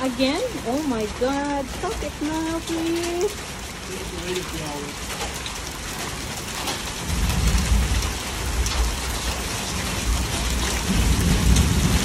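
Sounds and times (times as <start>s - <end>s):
rain falling on flooded street: 0.0s - 12.0s.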